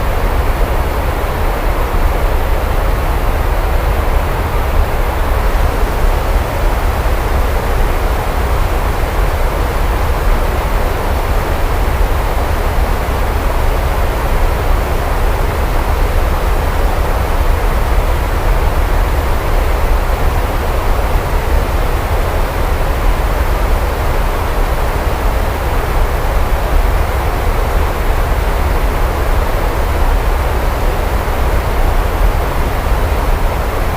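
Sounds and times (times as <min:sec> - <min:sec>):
heavy rainfall: 0:00.0 - 0:33.9.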